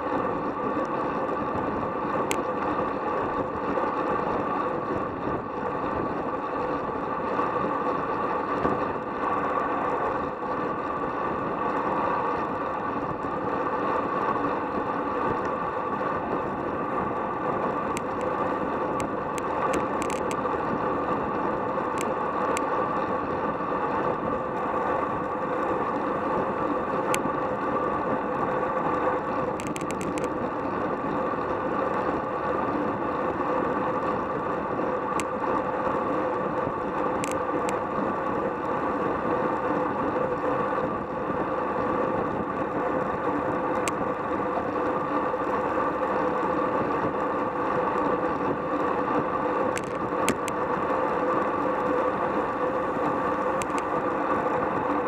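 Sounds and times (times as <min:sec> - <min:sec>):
bicycle clicks: 0:00.0 - 0:55.0
bicycle tyre noise: 0:00.0 - 0:55.0
wind rush on microphone: 0:00.0 - 0:55.0.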